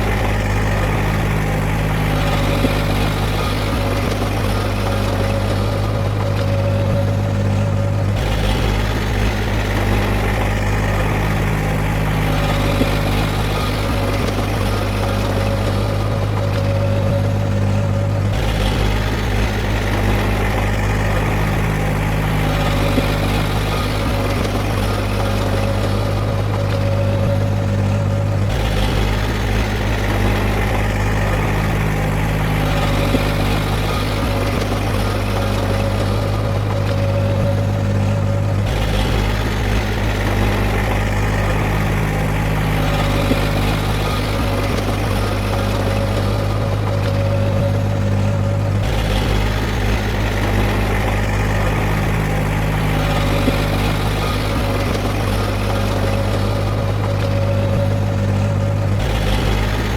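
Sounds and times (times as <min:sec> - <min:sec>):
heavy diesel engine hum: 0:00.0 - 0:59.9.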